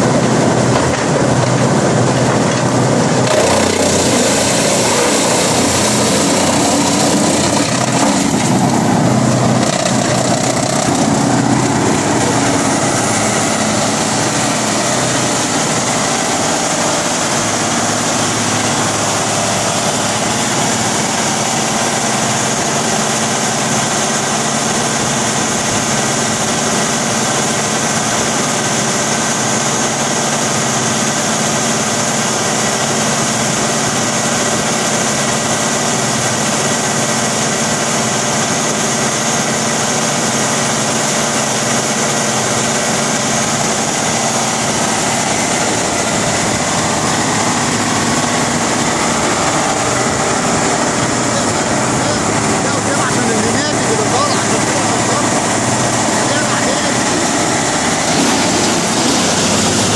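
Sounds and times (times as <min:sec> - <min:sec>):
large diesel engine running: 0:00.0 - 0:59.9.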